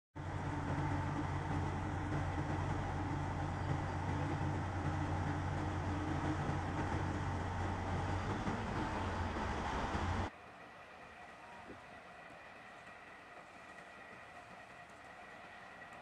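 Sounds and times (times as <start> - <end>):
boat diesel engines droning: 0.2 - 16.0.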